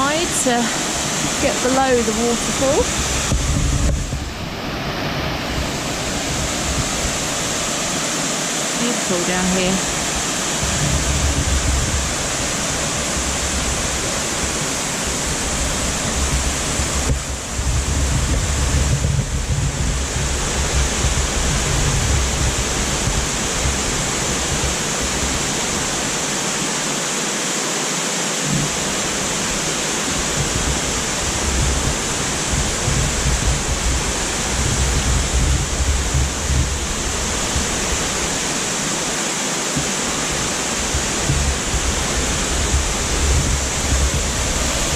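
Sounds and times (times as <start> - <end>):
waterfall crashing into pool: 0.0 - 44.9.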